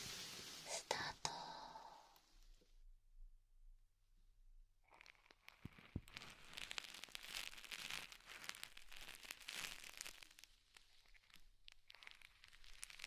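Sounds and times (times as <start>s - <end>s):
object crinkling and crackling: 0.0s - 2.7s, 4.8s - 13.0s.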